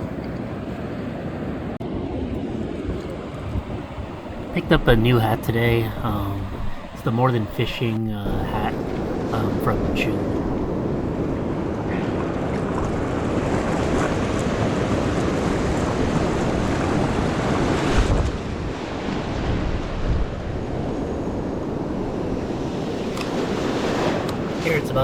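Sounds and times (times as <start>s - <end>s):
ocean surf washing on beach: 0.0s - 25.0s
wind buffeting microphone: 0.0s - 25.0s.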